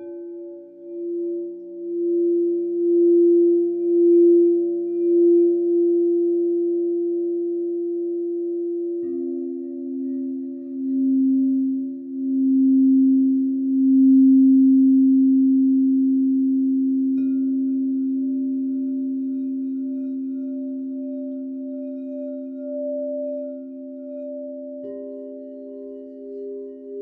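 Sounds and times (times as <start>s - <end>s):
singing bowls ringing: 0.0s - 27.0s.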